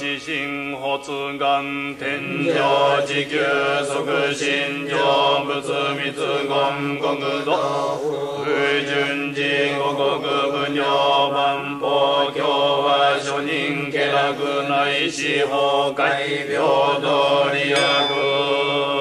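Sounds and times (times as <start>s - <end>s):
person chanting: 0.0s - 19.0s.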